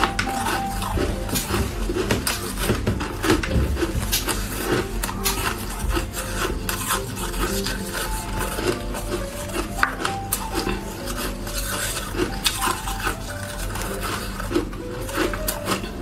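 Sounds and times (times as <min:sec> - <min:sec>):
ice crunched in mouth: 0:00.0 - 0:16.0.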